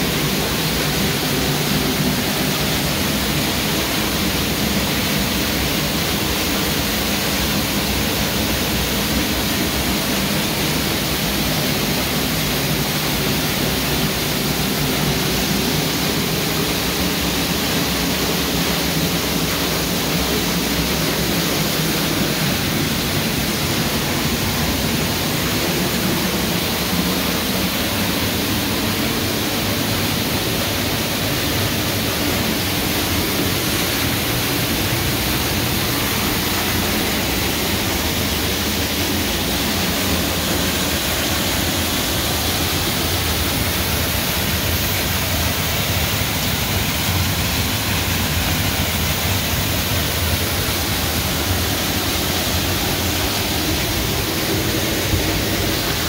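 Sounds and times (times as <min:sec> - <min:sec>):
waterfall splashing onto rocks: 0:00.0 - 0:56.0.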